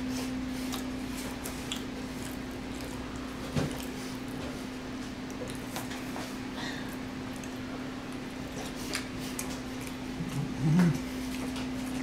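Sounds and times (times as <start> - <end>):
chewing and wet mouth sounds: 0.0 - 12.0
steady low hum: 0.0 - 12.0.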